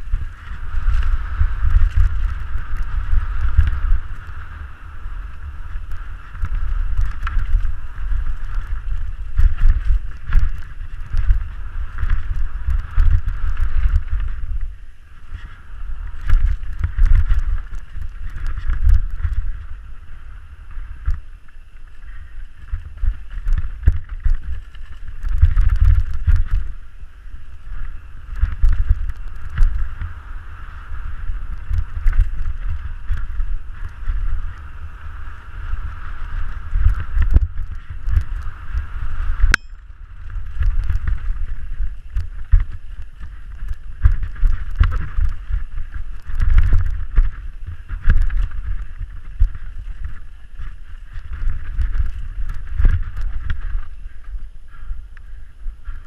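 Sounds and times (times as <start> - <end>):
bike clicks and clatters: 0.0 - 56.0
wind rumble on microphone: 0.0 - 56.0.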